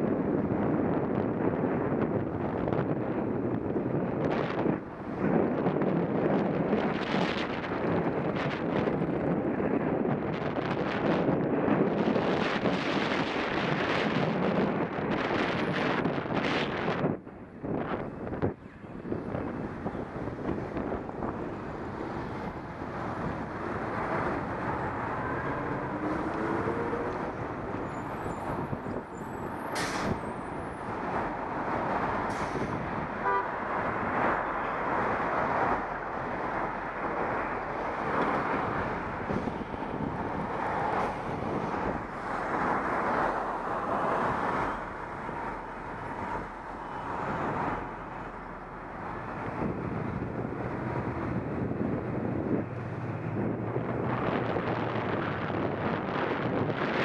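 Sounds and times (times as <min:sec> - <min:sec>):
street traffic: 0:00.0 - 0:57.0
wind rushing over microphone: 0:00.0 - 0:57.0.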